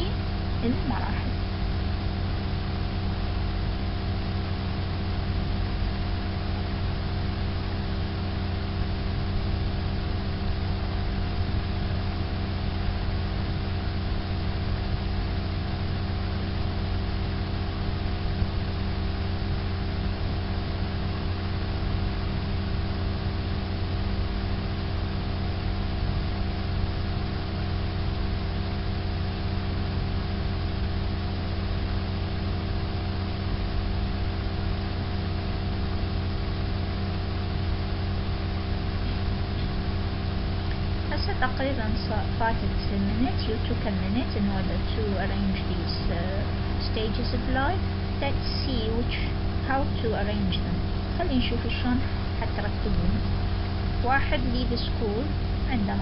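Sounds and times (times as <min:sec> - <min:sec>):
low machine drone with held tones: 0:00.0 - 0:56.0.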